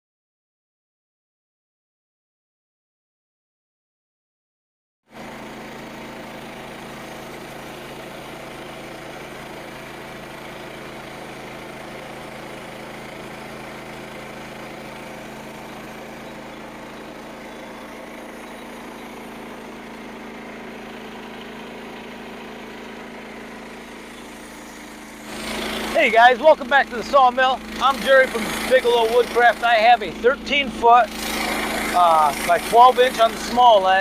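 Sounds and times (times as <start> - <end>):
engine idling: 5.2 - 34.0.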